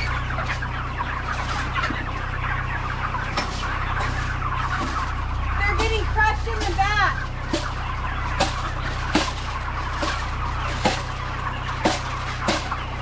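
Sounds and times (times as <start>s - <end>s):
chickens clucking: 0.0s - 13.0s
low hum: 0.0s - 13.0s.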